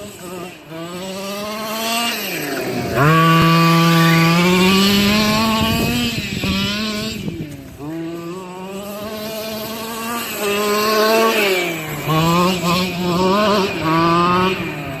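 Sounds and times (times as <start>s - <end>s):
small two-stroke engine revving: 0.0s - 15.0s.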